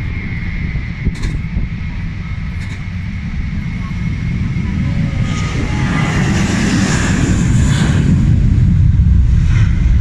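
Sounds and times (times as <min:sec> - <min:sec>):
jet airliner engines rumbling: 0:00.0 - 0:10.0.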